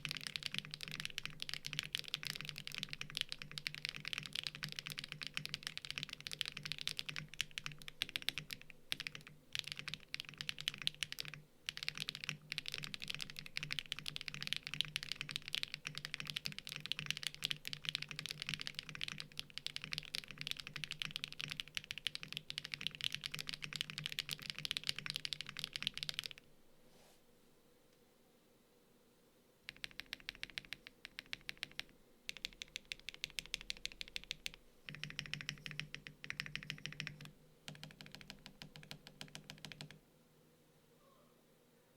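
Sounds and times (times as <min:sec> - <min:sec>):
fast mechanical keyboard typing: 0:00.0 - 0:26.4, 0:29.7 - 0:40.0.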